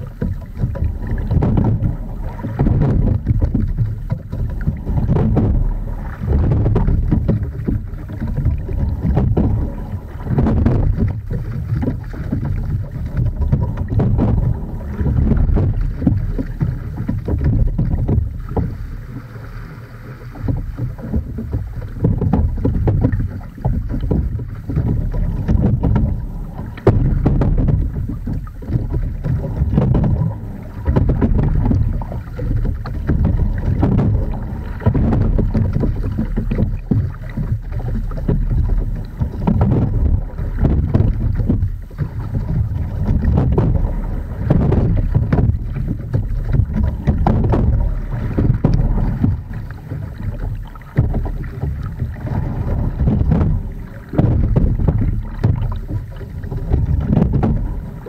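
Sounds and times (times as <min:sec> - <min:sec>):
oars and rigging clicking: 0:00.0 - 0:58.0
water rushing along hull: 0:00.0 - 0:58.0
wind rumble on microphone: 0:00.0 - 0:58.0.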